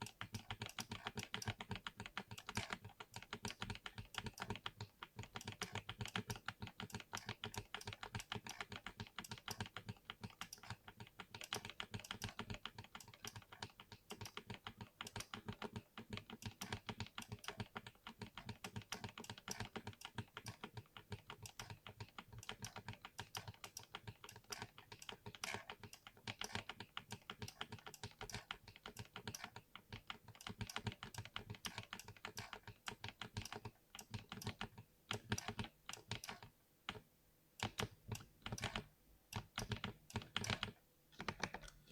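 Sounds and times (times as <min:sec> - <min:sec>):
fast typing on mechanical keyboard: 0:00.0 - 0:37.0, 0:37.6 - 0:41.9.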